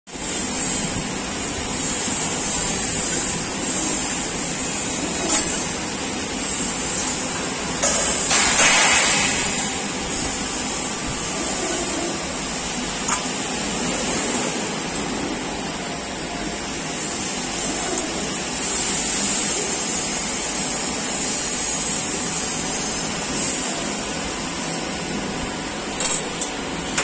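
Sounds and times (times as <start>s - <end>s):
press brake machine hiss and hum: 0.1s - 27.0s.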